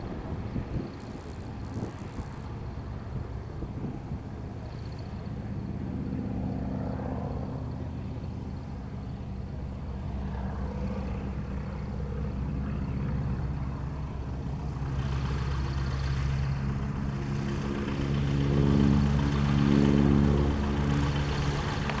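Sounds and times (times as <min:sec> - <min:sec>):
aircraft radial engine running: 0:00.0 - 0:22.0.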